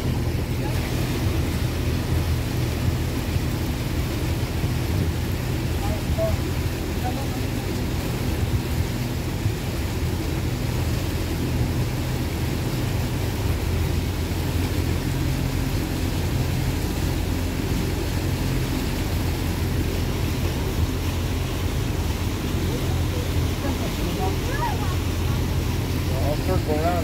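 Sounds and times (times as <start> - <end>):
motorboat engine droning: 0.0 - 27.0
wind and water rushing: 0.0 - 27.0.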